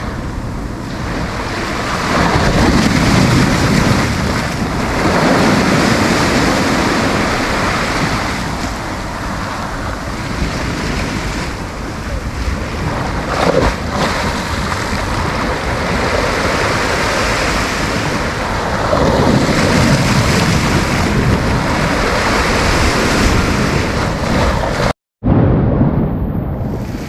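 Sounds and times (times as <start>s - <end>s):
sea waves breaking: 0.0s - 24.9s, 26.6s - 27.0s
wind on microphone: 0.0s - 27.0s.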